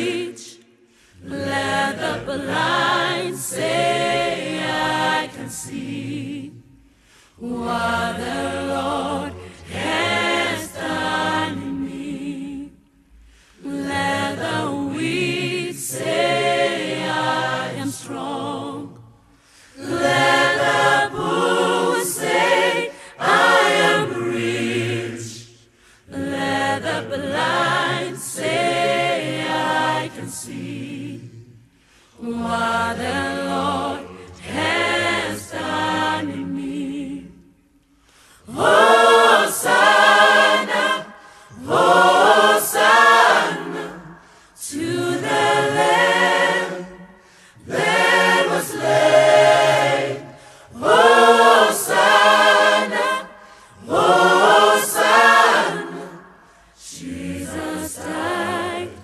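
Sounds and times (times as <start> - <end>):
choir singing a cappella: 0.0 - 59.0.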